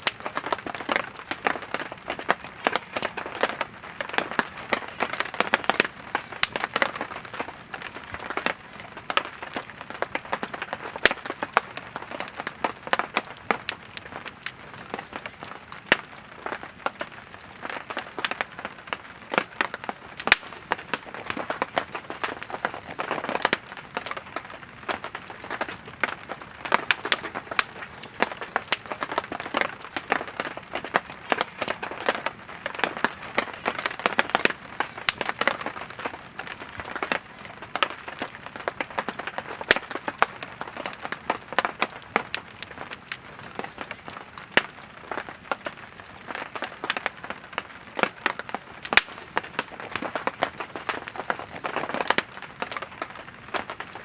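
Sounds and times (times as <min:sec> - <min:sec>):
campfire crackling and popping: 0:00.0 - 0:54.0
soft hiss of flames: 0:00.0 - 0:54.0.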